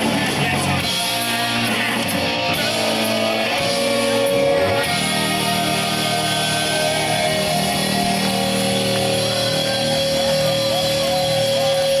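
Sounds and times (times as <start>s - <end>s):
punk rock band playing loudly: 0.0s - 12.0s.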